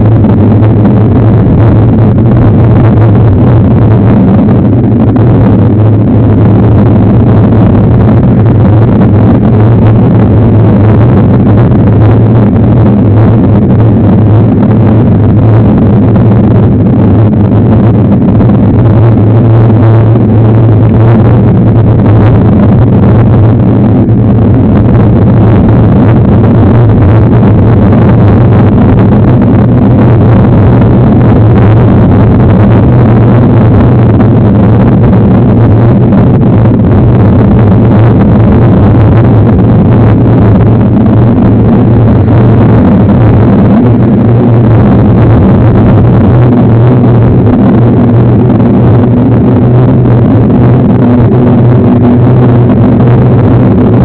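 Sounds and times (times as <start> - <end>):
trail vibration rumble: 0.0 - 54.0
wind buffeting camera: 0.0 - 54.0.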